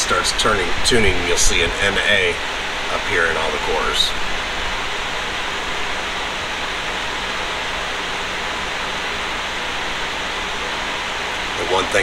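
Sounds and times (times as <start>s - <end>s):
cooling fans rushing air: 0.0s - 12.0s
faint low hum: 0.0s - 12.0s.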